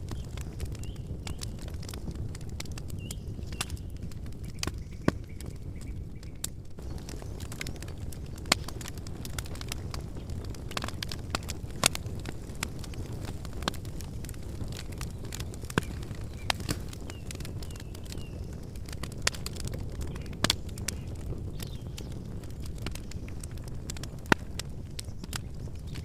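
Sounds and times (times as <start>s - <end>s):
campfire crackling and popping: 0.0s - 26.0s
low rush of burning fire: 0.0s - 26.0s.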